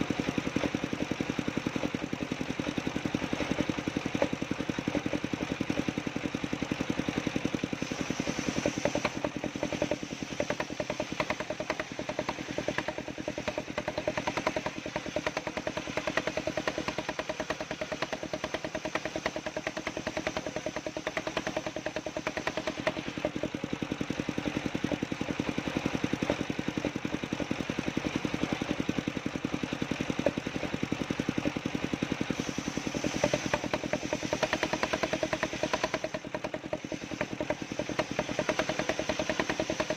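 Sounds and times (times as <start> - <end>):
engine chugging: 0.0 - 39.9.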